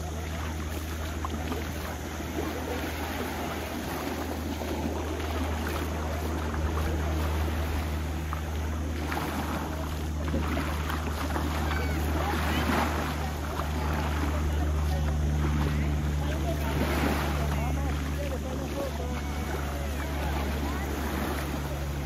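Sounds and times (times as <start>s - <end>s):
small waves: 0.0s - 22.0s
steady low hum: 0.0s - 22.0s.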